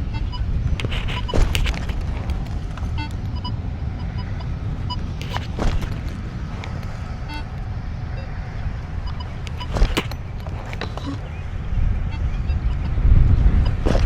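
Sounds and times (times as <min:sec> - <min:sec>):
metal detector beeps: 0:00.0 - 0:06.0, 0:07.2 - 0:08.4, 0:09.0 - 0:14.0.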